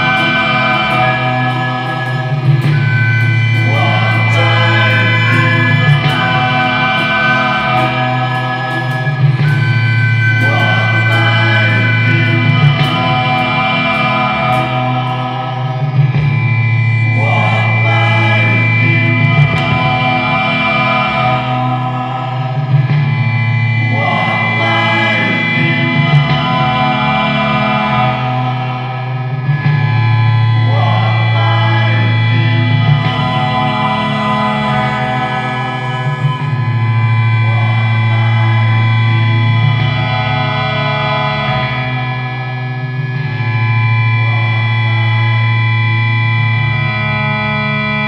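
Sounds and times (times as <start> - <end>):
choir-like singing: 0.0 - 29.8, 30.6 - 42.3.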